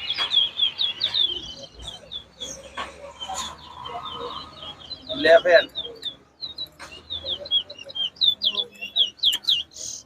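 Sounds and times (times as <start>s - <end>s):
finch singing whistled notes: 0.0s - 10.0s.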